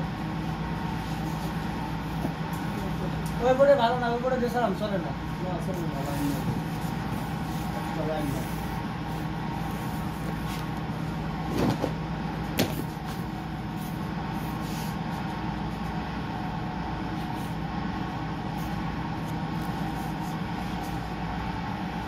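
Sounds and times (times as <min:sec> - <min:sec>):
mechanical hum of machinery: 0:00.0 - 0:22.0.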